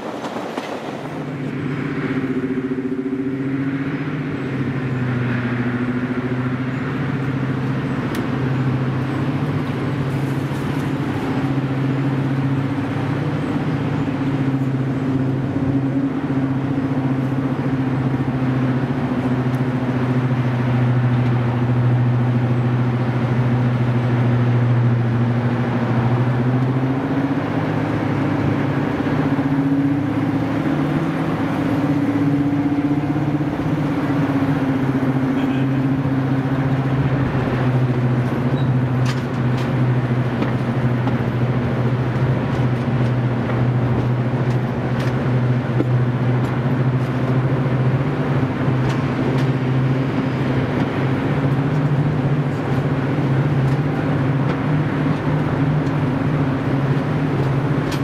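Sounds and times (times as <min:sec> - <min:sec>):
diesel locomotive engine droning: 0:00.0 - 0:58.0.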